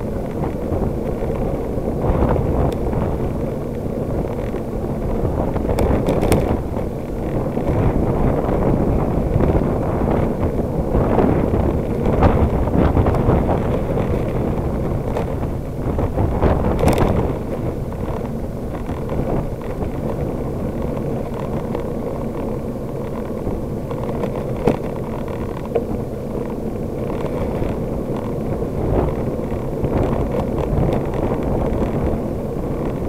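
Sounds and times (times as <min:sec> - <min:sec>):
bicycle riding on paved path: 0:00.0 - 0:33.0
wind buffeting microphone: 0:00.0 - 0:33.0.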